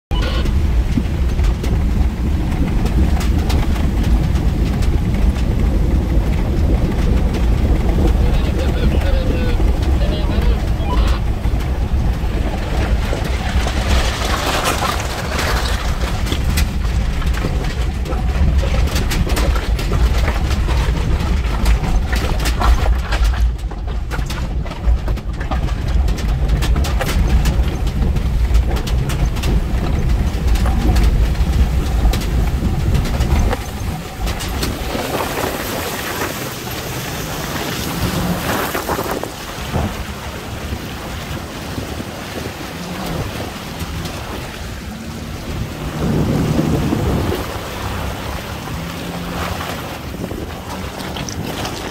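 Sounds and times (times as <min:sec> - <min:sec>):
engine and drivetrain rumble: 0:00.0 - 0:51.9
water rushing and splashing: 0:00.1 - 0:51.9
water sloshing against vehicle: 0:00.1 - 0:51.9
wind on microphone: 0:00.1 - 0:51.9.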